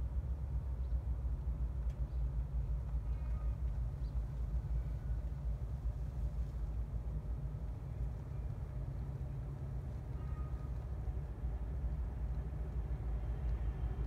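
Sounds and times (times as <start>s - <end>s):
people-mover car rumbling: 0.0s - 14.0s.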